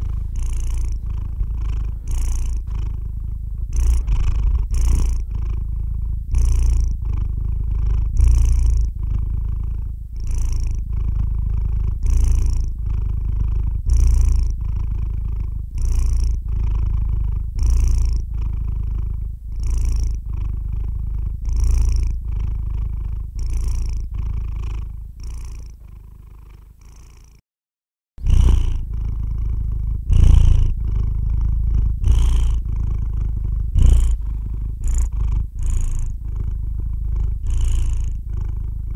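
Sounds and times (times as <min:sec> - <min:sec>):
cat purring: 0:00.0 - 0:27.4, 0:28.2 - 0:38.9.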